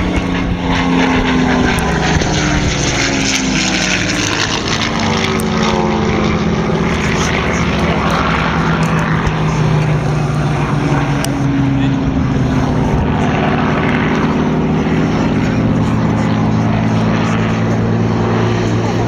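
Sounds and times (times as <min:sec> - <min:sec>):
propeller aircraft engine: 0:00.0 - 0:19.0.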